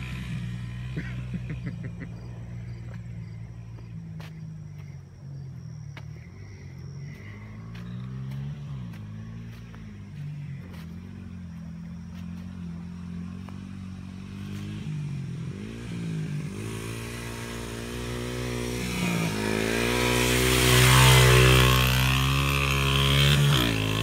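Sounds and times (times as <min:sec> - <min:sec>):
small off-road engine revving: 0:00.0 - 0:24.0.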